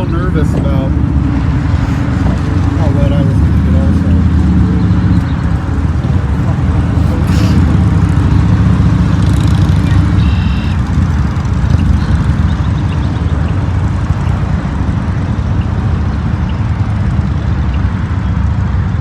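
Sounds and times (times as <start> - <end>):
motorcycle engine rumble: 0.0 - 19.0
wind and road noise: 0.0 - 19.0.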